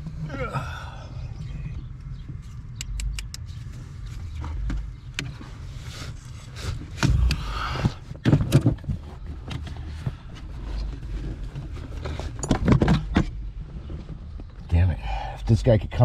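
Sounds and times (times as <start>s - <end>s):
low handling rumble: 0.0s - 16.0s.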